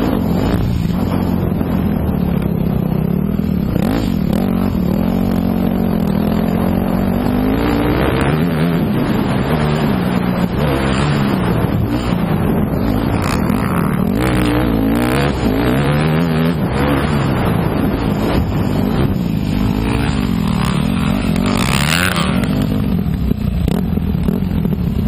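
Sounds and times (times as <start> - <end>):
motocross bike engine revving: 0.0 - 24.8.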